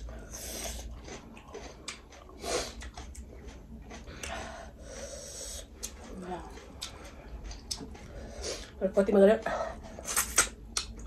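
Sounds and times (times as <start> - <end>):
people eating mouth noises: 0.0 - 8.8, 9.8 - 11.0.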